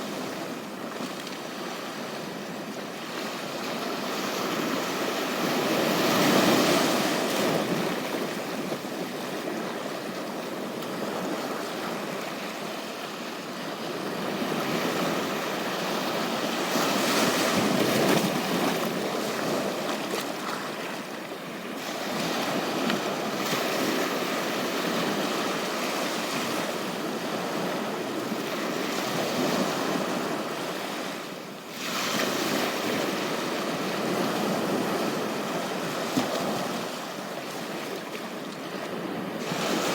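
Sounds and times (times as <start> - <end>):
ocean surf on a beach: 0.0 - 39.9.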